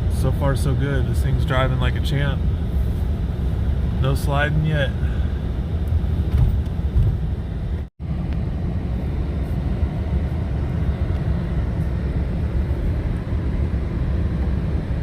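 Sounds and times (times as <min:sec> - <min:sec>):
vehicle driving on snow: 0:00.0 - 0:15.0.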